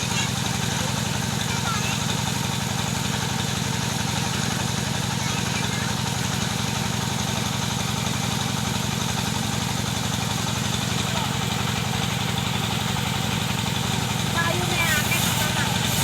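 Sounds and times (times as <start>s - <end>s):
wood saw engine running: 0.0s - 16.0s.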